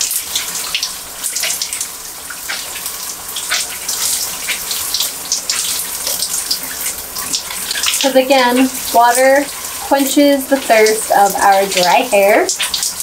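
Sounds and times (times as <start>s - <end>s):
shower water running: 0.0s - 13.0s.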